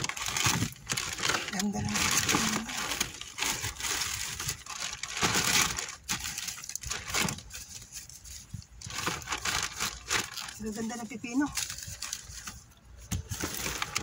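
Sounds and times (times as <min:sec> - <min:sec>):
plastic bags rustling: 0:00.0 - 0:14.0.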